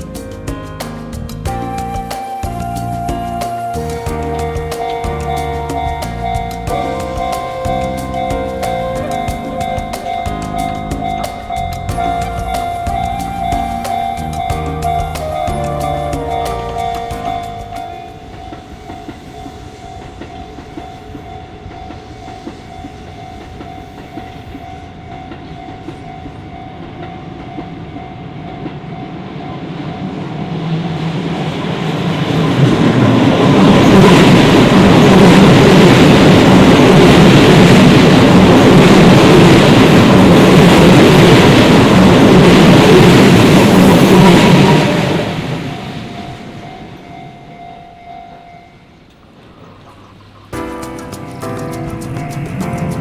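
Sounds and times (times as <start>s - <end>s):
level-crossing warning bell: 4.4s - 50.4s.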